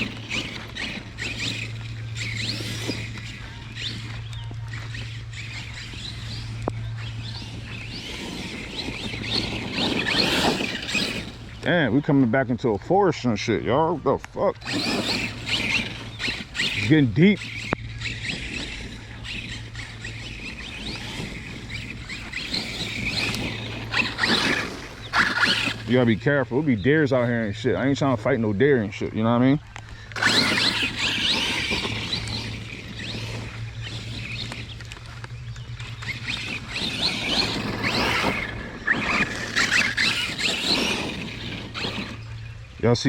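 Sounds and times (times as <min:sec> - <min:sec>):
electric motor whining in bursts: 0:00.0 - 0:11.9, 0:13.8 - 0:28.1, 0:29.6 - 0:42.8
steady low hum: 0:00.0 - 0:43.0.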